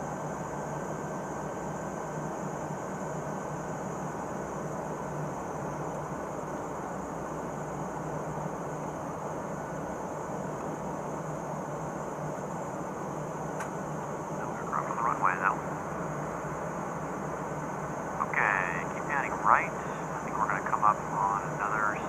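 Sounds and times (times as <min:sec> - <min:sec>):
aircraft cabin drone: 0:00.0 - 0:22.0.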